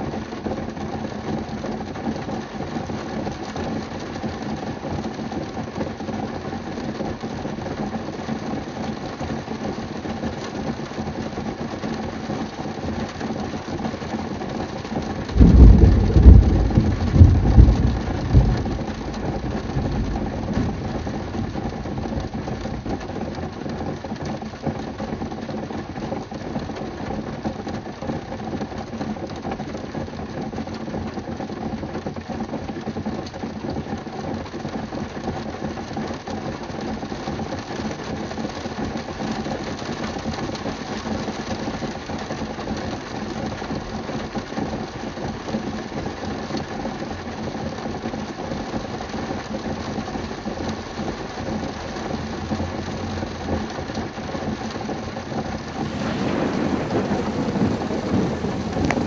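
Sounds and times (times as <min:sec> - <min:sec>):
rain pattering on car roof: 0:00.0 - 0:59.0.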